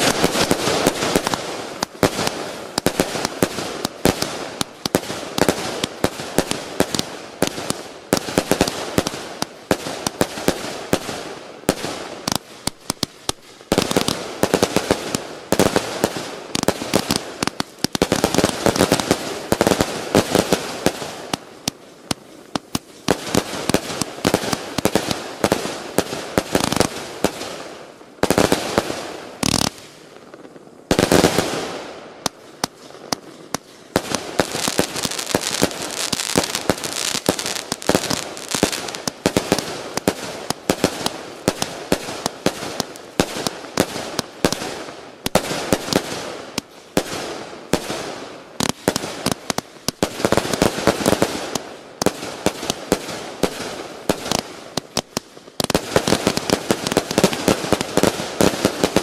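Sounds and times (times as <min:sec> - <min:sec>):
firework tubes launching: 0:00.0 - 0:59.0.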